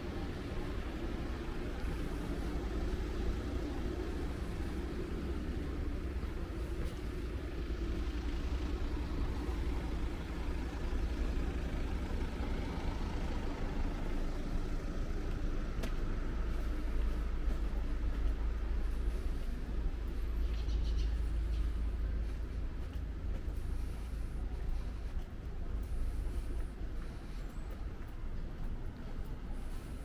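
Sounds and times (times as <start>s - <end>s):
motor vehicles rumbling: 0.0s - 30.0s.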